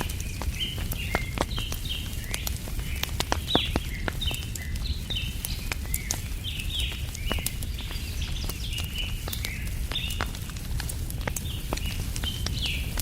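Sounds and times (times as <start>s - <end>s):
birds chirping: 0.0s - 13.0s
campfire crackling and popping: 0.0s - 13.0s.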